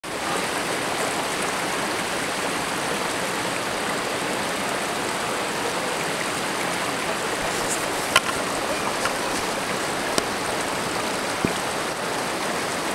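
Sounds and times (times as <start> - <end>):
creek rushing over stones: 0.1 - 12.9.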